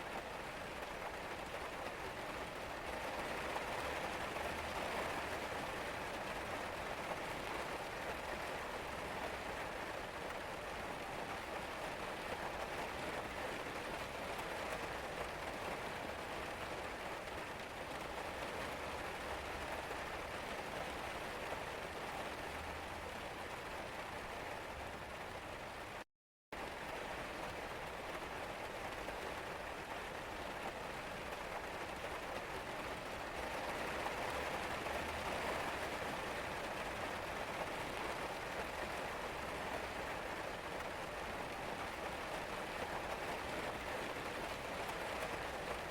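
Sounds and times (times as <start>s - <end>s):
steady rain hiss: 0.0s - 26.0s, 26.6s - 45.9s.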